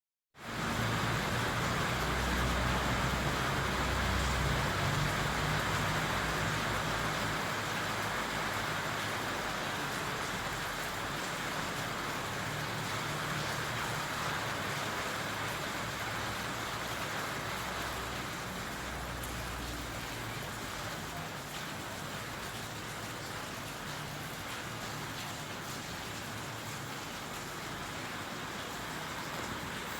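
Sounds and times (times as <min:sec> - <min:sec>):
steady rain hiss: 0:00.4 - 0:29.9.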